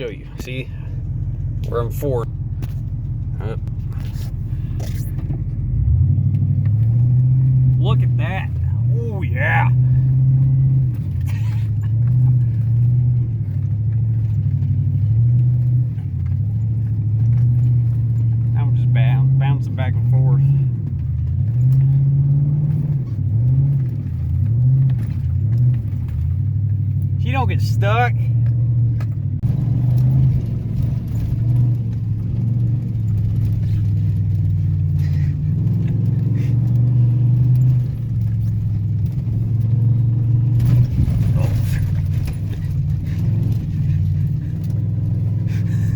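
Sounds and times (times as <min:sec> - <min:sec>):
clicks and rattles over bumps: 0:00.0 - 0:08.9, 0:09.7 - 0:45.9
truck engine droning under load: 0:00.0 - 0:45.9.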